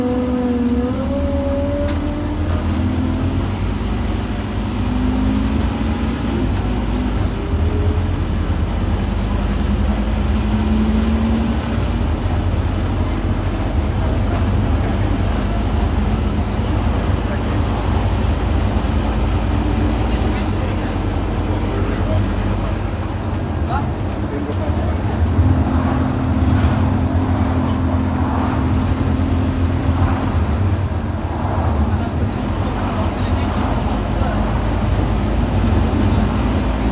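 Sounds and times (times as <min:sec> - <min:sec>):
bus diesel engine droning: 0:00.0 - 0:36.9.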